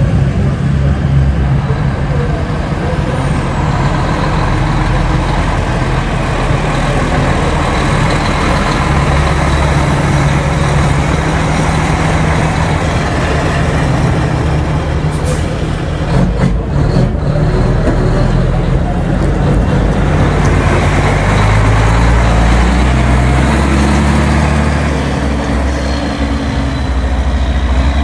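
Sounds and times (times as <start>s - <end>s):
truck diesel engine running: 0.0s - 28.0s.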